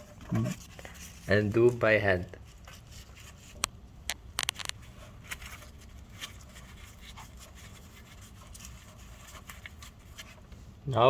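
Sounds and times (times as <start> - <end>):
faint ticks and scrapes: 0.0 - 10.7.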